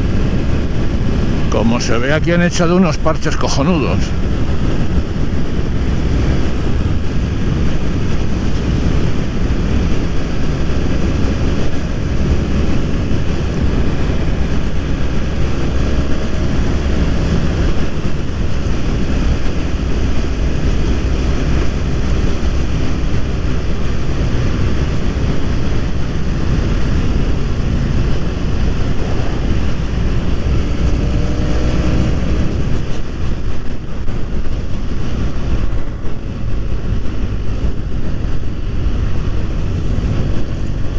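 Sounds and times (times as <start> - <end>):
motorcycle engine running: 0.0 - 1.5, 4.1 - 40.9
wind rush on microphone: 0.0 - 40.9.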